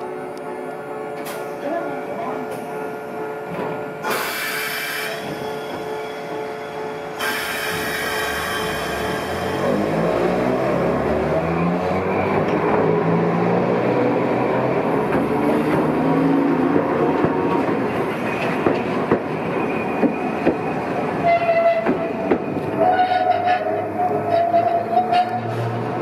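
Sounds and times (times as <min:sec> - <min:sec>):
streetcar motor whine: 0:00.0 - 0:26.0.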